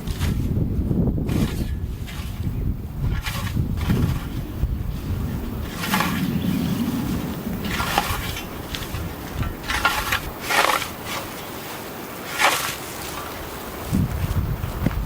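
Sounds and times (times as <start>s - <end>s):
wind rumbling on microphone: 0.0s - 15.0s
scythe blade swishing through grass: 1.3s - 13.7s.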